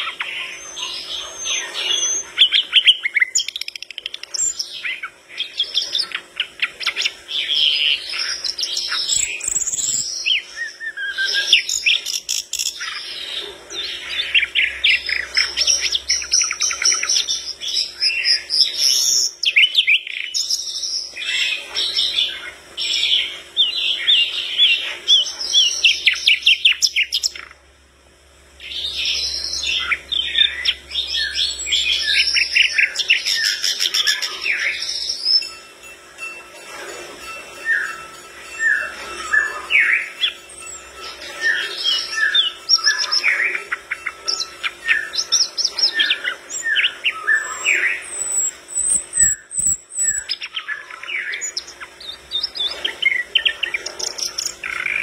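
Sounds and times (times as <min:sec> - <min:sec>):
bird song with trills and whistles: 0:00.0 - 0:27.7, 0:28.4 - 0:55.0.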